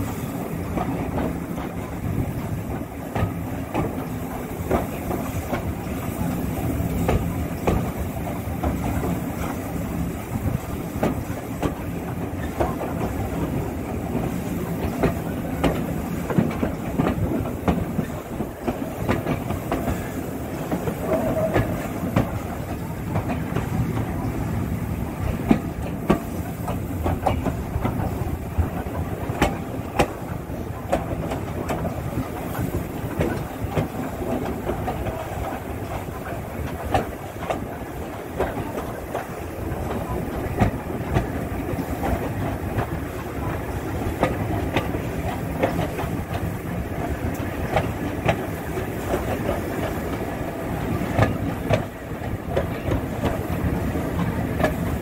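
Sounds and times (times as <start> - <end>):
rumble of wheels on rails: 0.0 - 55.0.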